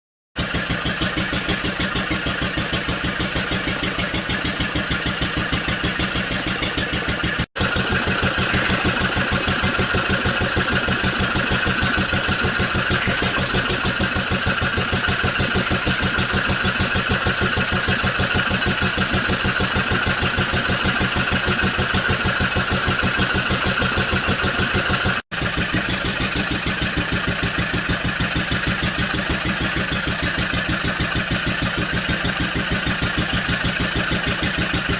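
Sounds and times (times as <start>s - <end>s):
compressor pumping: 0.4s - 34.9s.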